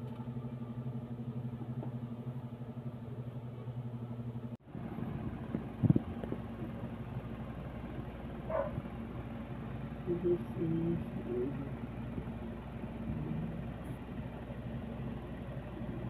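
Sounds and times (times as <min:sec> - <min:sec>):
motor hum with fast flutter: 0:00.0 - 0:16.0.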